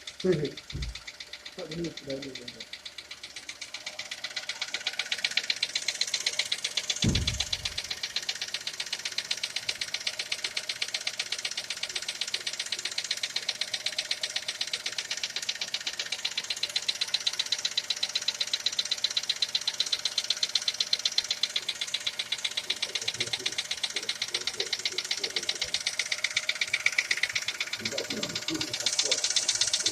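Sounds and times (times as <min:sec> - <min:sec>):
car engine running: 0:00.0 - 0:29.9
engine knocking tick: 0:00.0 - 0:29.9.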